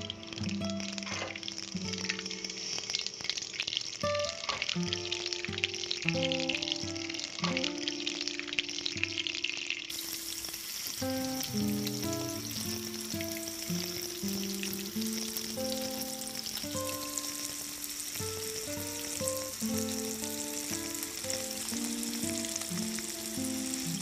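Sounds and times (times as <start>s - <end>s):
soft instrumental music: 0.0s - 2.6s, 4.0s - 9.8s, 11.0s - 24.0s
hot oil sizzling in a pan: 0.0s - 24.0s.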